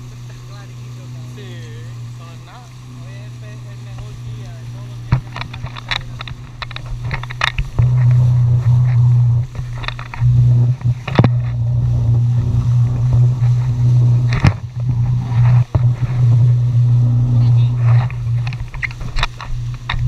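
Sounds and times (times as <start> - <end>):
jet ski engine droning: 0.0 - 20.0.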